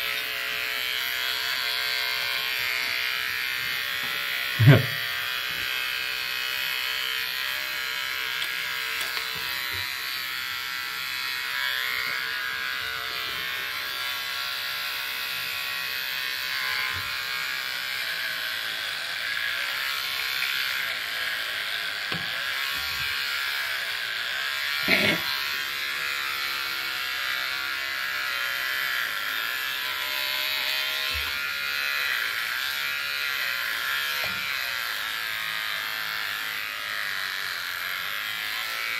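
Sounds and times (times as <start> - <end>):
electric hair clippers running: 0.0 - 38.9.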